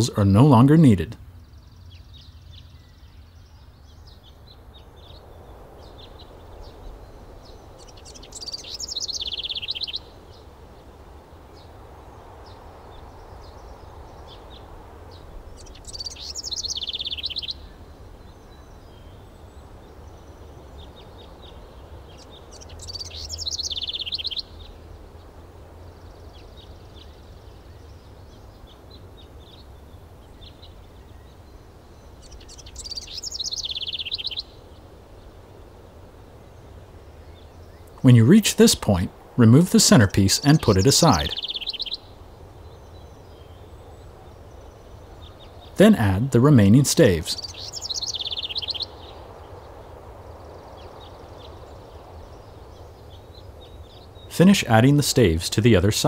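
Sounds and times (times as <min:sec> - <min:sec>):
songbird trill: 0:00.0 - 0:56.0.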